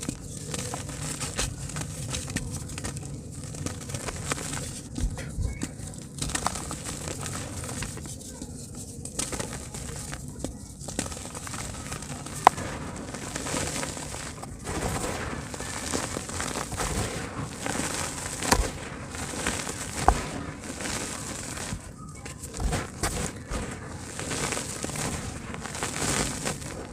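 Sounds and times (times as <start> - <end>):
dirt crackling in water: 0.0 - 8.3, 8.9 - 26.9.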